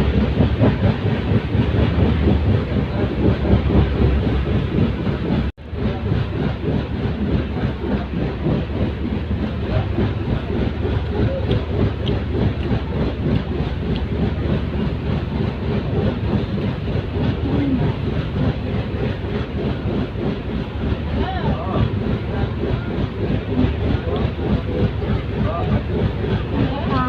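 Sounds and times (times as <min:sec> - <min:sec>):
train rumble: 0:00.0 - 0:27.0
wheels clattering on rails: 0:00.0 - 0:27.0.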